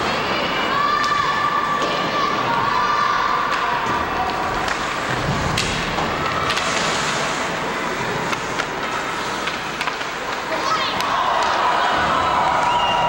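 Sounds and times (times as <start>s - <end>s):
skates scraping ice: 0.0s - 12.8s
crowd noise: 0.0s - 13.0s
hockey sticks and puck clacking: 0.1s - 12.8s.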